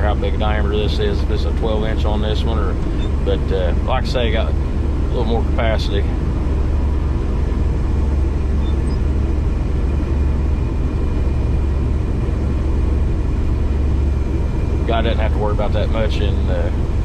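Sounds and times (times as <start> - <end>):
combine harvester drone: 0.0 - 17.0.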